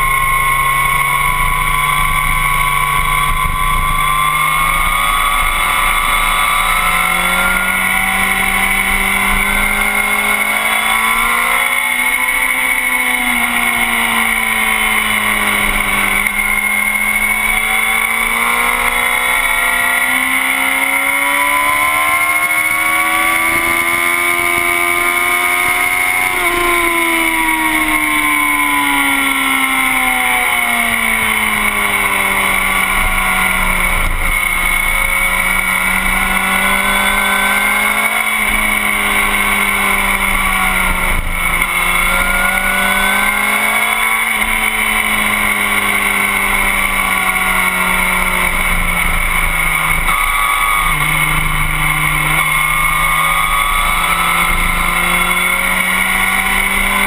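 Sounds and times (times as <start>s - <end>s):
motorcycle engine: 0.0s - 57.0s
steady high whine: 0.0s - 57.0s.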